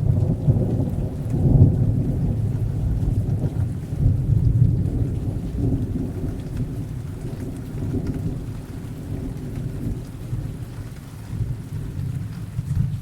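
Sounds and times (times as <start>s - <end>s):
steady rainfall: 0.0s - 13.0s
thunder rumbling: 0.0s - 13.0s.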